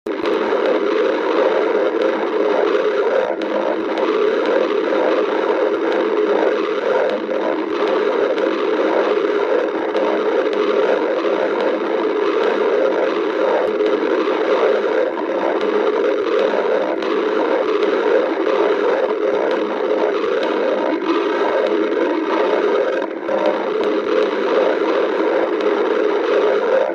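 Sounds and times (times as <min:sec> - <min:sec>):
stomach growling and gurgling: 0:00.1 - 0:26.9.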